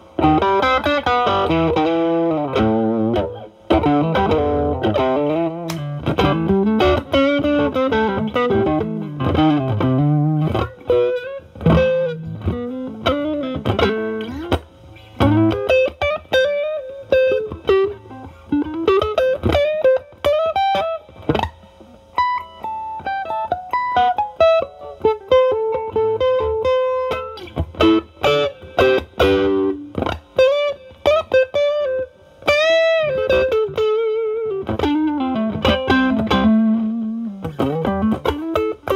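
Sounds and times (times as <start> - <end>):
electric guitar lead lines: 0.0 - 38.9.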